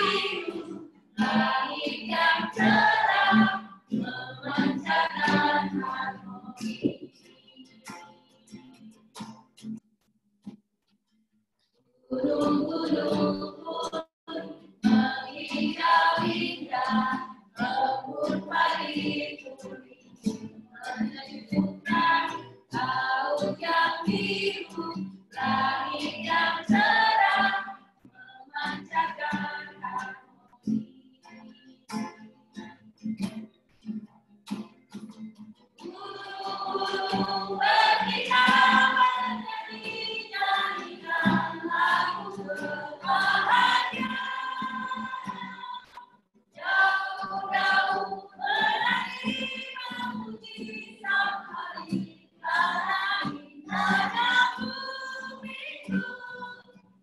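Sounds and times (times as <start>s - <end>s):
people singing: 0.0s - 8.0s, 12.1s - 31.7s, 35.8s - 46.0s, 46.6s - 56.8s.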